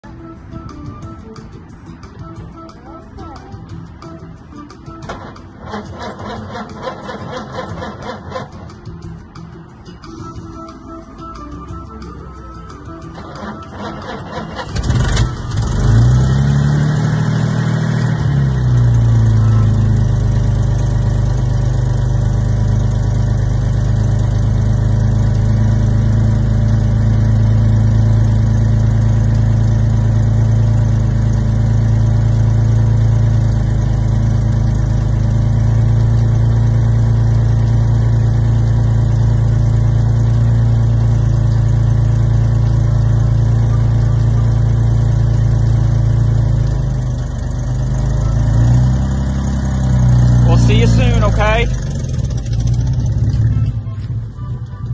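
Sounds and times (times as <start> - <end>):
car engine starting and revving: 4.9 - 9.0, 12.9 - 54.2.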